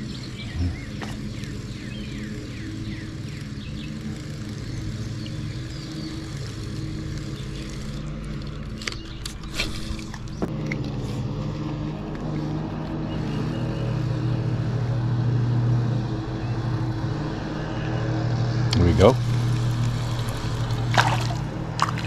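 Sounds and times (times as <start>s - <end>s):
birds chirping: 0.0s - 11.2s, 12.4s - 14.5s, 15.9s - 22.0s
engine drone: 0.0s - 22.0s.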